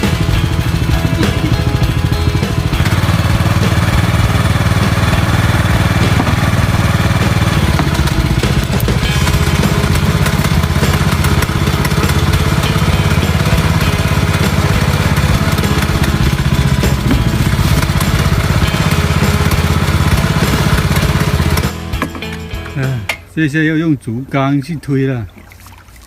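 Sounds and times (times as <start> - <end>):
small boat engine running: 0.0 - 23.1.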